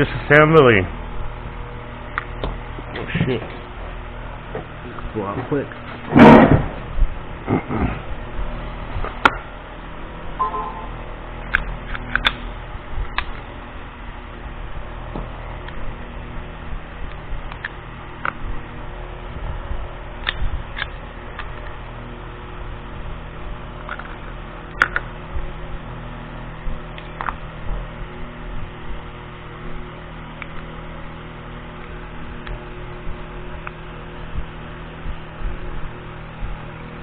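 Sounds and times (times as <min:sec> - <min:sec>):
steady electrical hum: 0:00.0 - 0:37.0.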